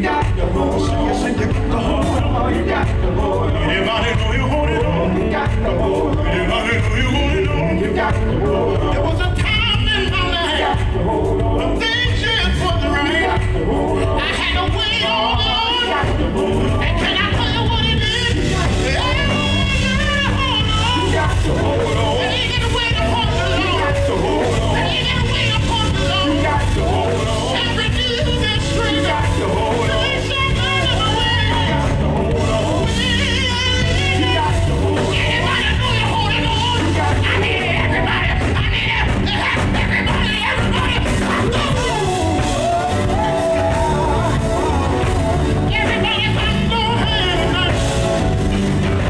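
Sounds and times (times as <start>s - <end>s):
singer's wavering vocals: 0.0s - 48.5s
live gospel band music: 0.0s - 49.0s.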